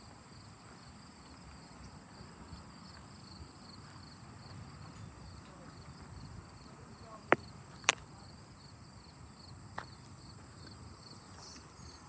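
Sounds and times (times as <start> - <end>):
steady high-pitched insect trill: 0.0 - 12.0.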